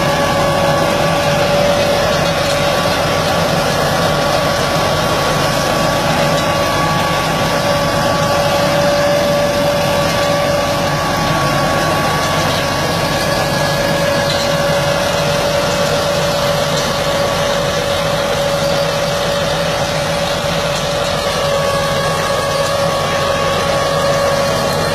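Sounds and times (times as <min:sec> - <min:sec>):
engine running steadily: 0:00.0 - 0:24.9
steady whine: 0:00.0 - 0:24.9.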